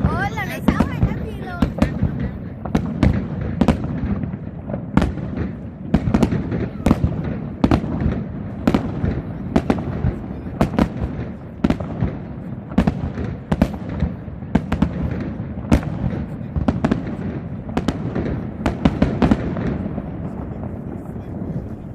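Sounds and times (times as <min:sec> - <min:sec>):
fireworks bursting with sharp bangs: 0:00.0 - 0:21.9.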